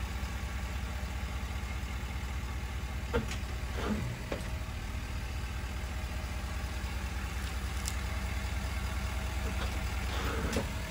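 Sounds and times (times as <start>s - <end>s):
truck engine idling: 0.0s - 10.9s.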